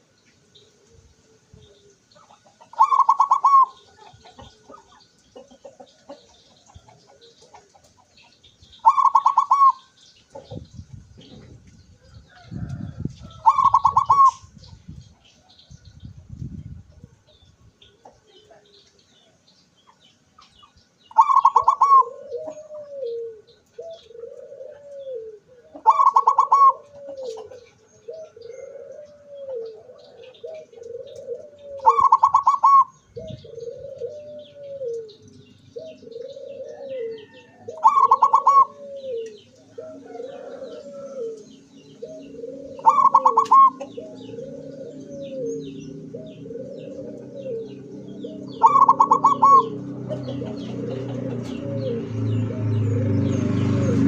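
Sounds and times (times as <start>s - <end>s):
small birds chirping: 0.0s - 54.0s
dove cooing: 0.6s - 14.7s, 21.1s - 54.0s.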